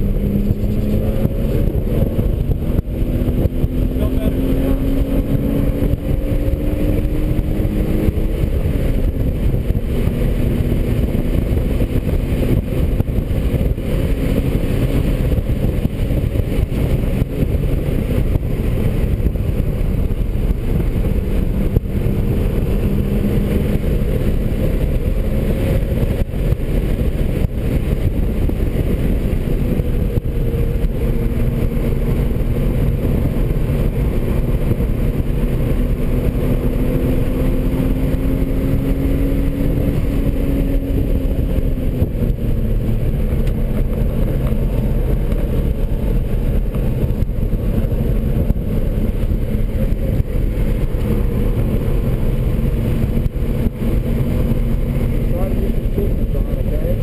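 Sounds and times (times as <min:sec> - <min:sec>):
car engine running hard: 0:00.0 - 0:57.0
wind and road noise: 0:00.0 - 0:57.0.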